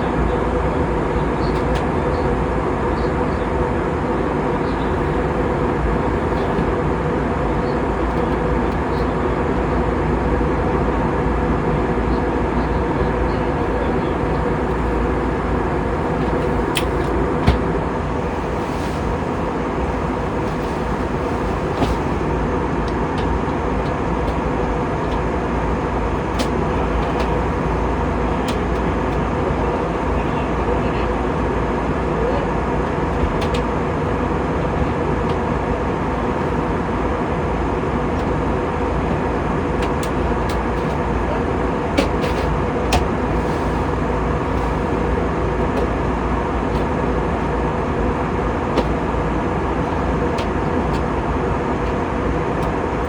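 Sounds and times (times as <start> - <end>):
airliner cabin engine noise: 0.0 - 53.0
faint steady hums: 0.0 - 53.0.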